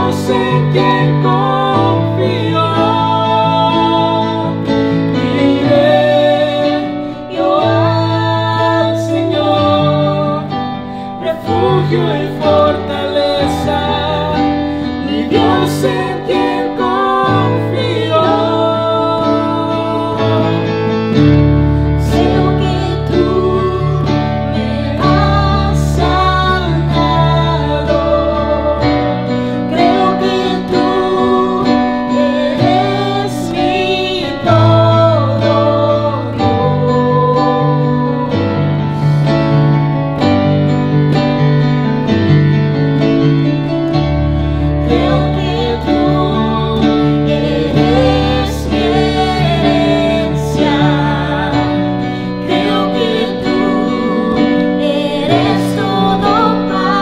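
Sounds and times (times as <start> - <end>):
man and woman singing: 0.0 - 39.0, 44.5 - 57.0.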